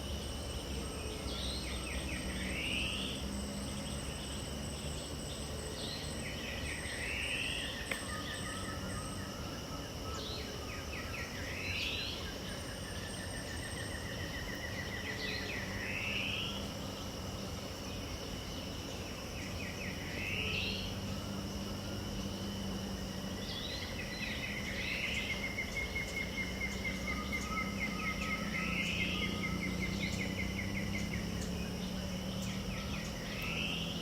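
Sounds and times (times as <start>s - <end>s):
high insect trilling: 0.0s - 34.0s.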